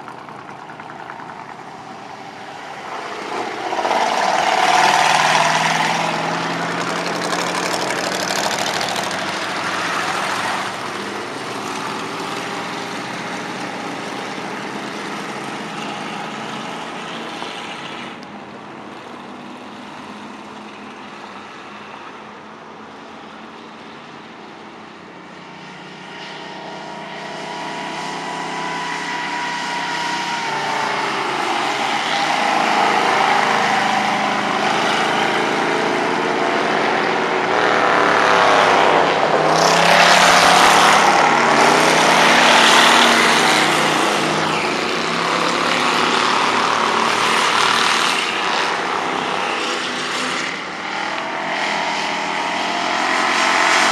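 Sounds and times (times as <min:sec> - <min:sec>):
stock car engine running hard: 0:00.0 - 0:22.0, 0:25.7 - 0:53.9.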